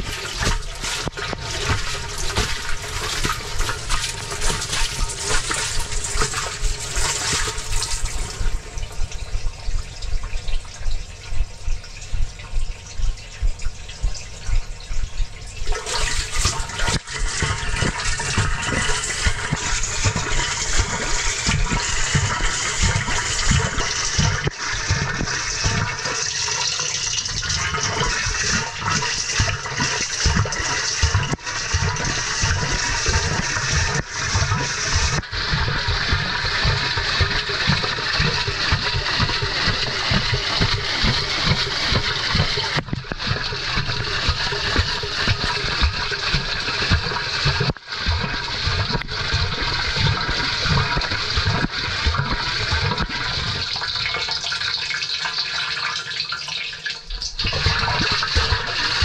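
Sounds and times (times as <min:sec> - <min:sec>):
water and laundry sloshing in drum: 0:00.0 - 0:59.0.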